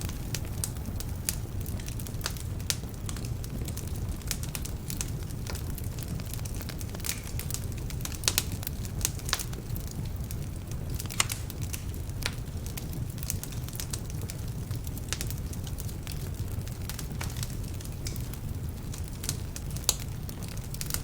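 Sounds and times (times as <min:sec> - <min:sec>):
log fire crackling: 0:00.0 - 0:21.0.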